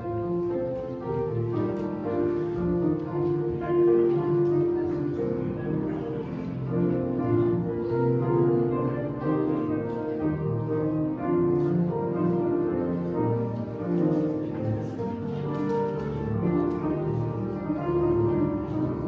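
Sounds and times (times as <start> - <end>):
slow piano-like keyboard music: 0.0 - 19.0.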